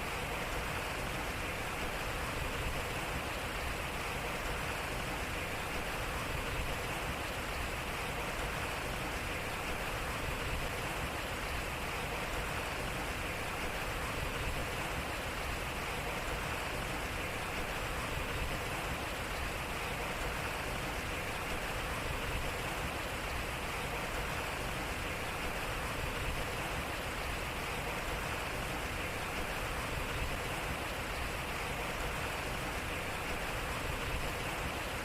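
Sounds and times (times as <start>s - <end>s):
water splashing at water wheel: 0.0s - 35.0s.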